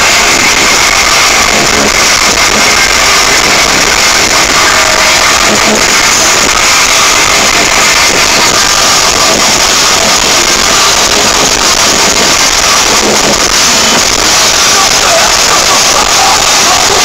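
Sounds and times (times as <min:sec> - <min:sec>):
metal band playing live: 0:00.0 - 0:17.0.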